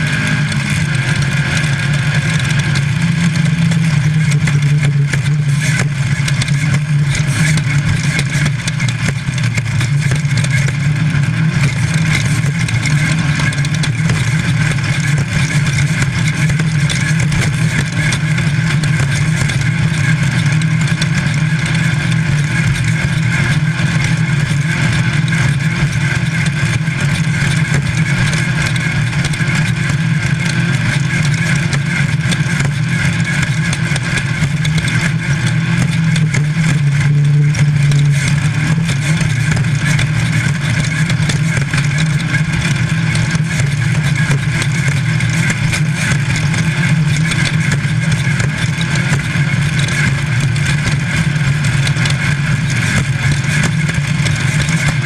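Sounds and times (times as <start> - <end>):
race car engine running hard: 0.0 - 55.0
road and wind noise: 0.0 - 55.0.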